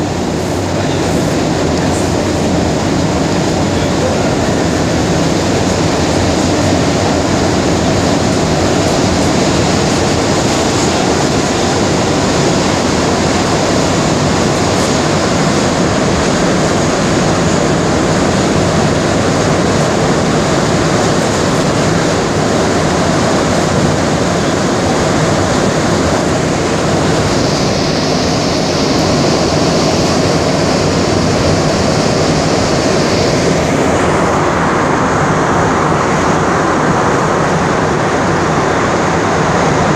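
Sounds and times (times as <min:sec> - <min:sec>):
metro train rumble: 0:00.0 - 0:39.9.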